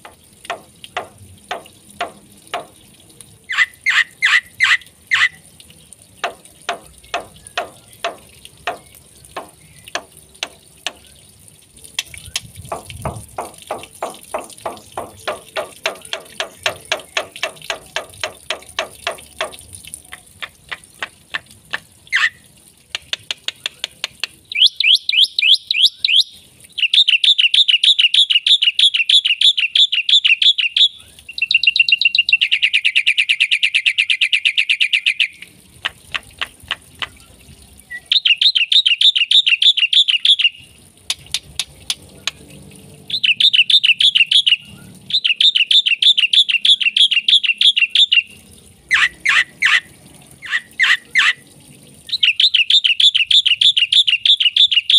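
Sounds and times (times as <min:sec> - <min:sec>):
myna singing clicks and trills: 0:00.0 - 0:54.9.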